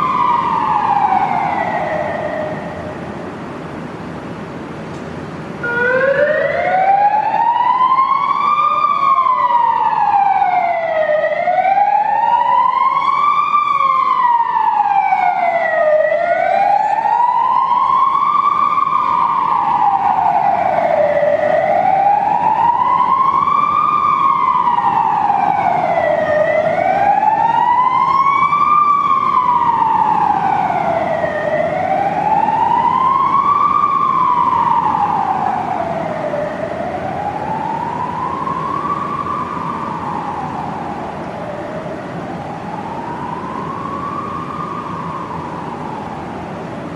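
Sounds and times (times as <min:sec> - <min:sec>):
police siren wailing: 0:00.0 - 0:03.2, 0:05.6 - 0:46.9
low background noise: 0:00.0 - 0:46.9.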